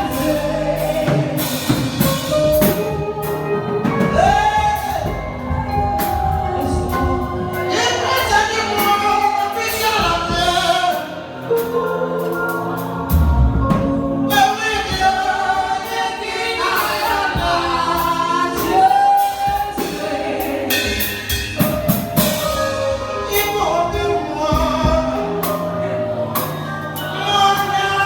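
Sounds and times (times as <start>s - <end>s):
band with drums: 0.0s - 28.0s
voices singing held notes: 0.0s - 28.0s.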